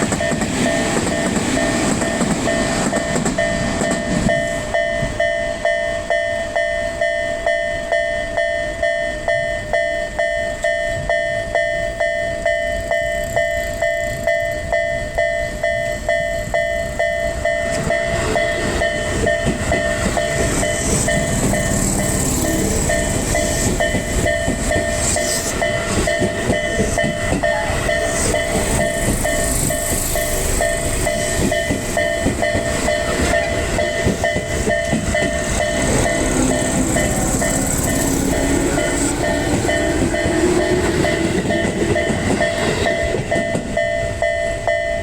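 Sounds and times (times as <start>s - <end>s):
level-crossing bell ringing: 0.0s - 45.0s
train wheels rumbling on rails: 0.0s - 45.0s.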